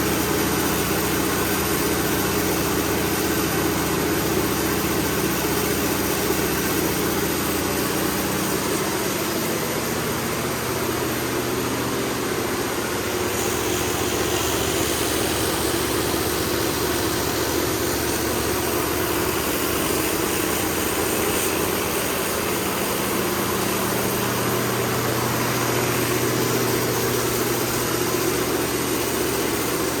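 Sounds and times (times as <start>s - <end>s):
diesel generator droning: 0.0s - 30.0s.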